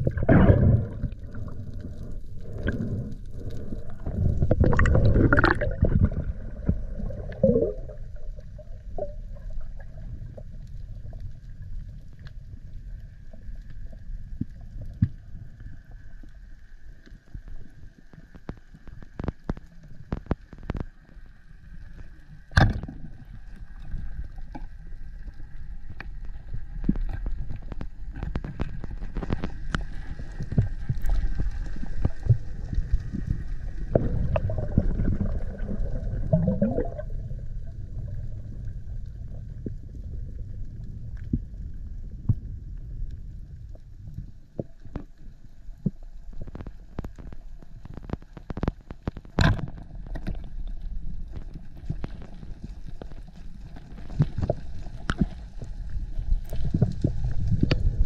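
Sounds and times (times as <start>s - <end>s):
low underwater rumble: 0.0s - 58.0s
underwater clicks and crackles: 0.0s - 58.0s.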